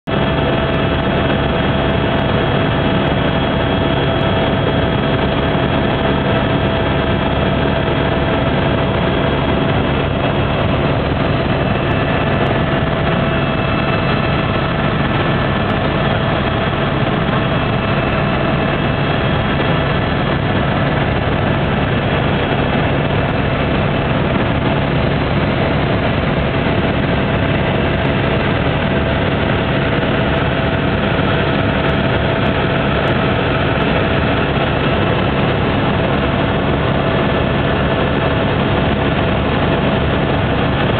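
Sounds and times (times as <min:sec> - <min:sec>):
helicopter engine and rotor drone: 0:00.0 - 0:40.9
steady whining tones: 0:00.1 - 0:40.8.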